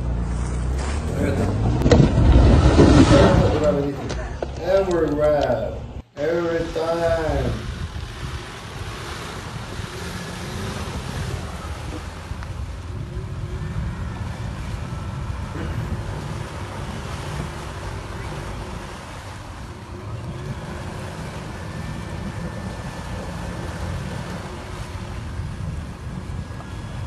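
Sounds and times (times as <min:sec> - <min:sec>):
suv engine running: 0:00.0 - 0:27.0
water churning: 0:00.0 - 0:27.0
wind noise on microphone: 0:01.5 - 0:27.0.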